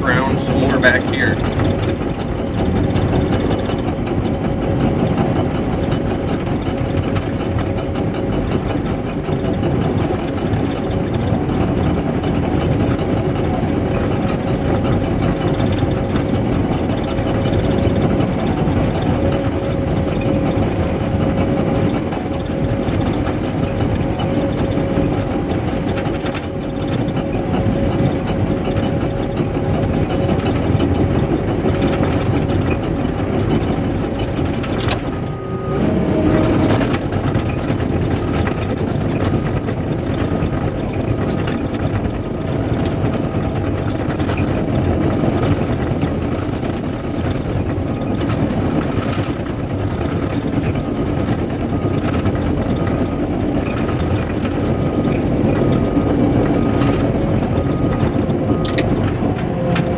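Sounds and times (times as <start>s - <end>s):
bulldozer diesel engine running: 0.0s - 59.9s
constant whine: 0.0s - 59.9s.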